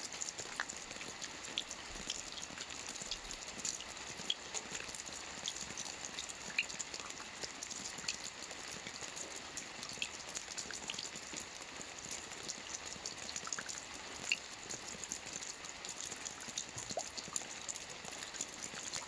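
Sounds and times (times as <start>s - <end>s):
soft rain on a roof: 0.0s - 19.0s.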